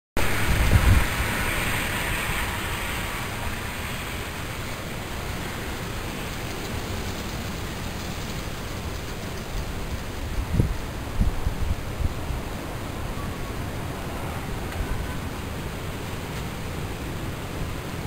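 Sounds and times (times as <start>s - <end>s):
gusts buffeting microphone: 0.2s - 18.0s
snowstorm wind hiss: 0.2s - 18.0s.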